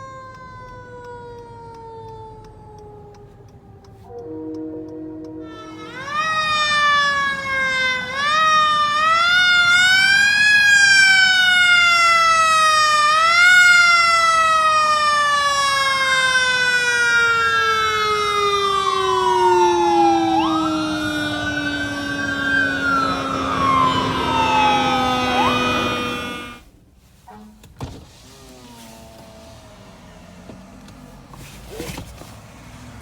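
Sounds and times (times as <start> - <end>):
second siren: 0.0 - 26.6
siren wailing: 0.0 - 26.6.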